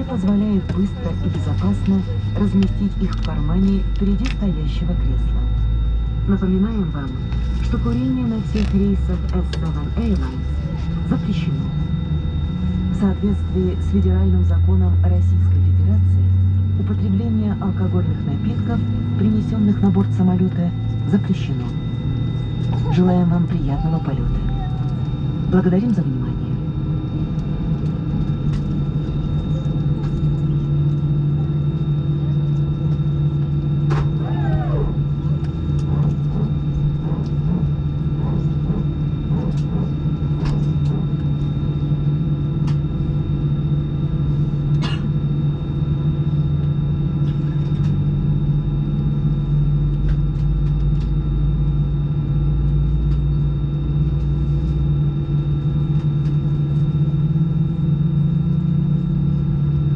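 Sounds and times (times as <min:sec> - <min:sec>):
aircraft cabin drone: 0:00.0 - 0:59.9.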